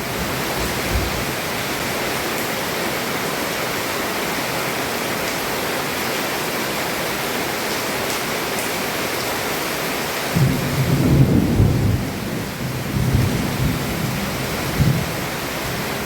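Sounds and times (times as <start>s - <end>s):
heavy rain on a roof: 0.0s - 16.0s.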